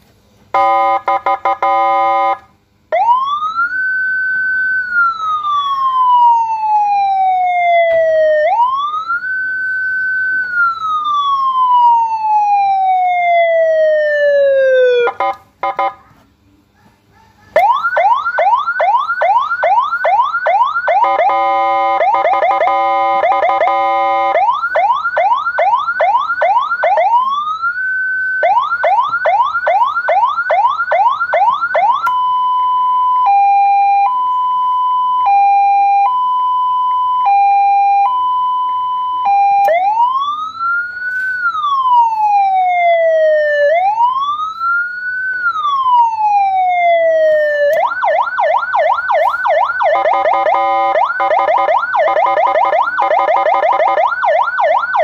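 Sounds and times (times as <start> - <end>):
electronic siren cycling tones: 0.6 - 16.0, 17.6 - 40.6, 41.4 - 55.0.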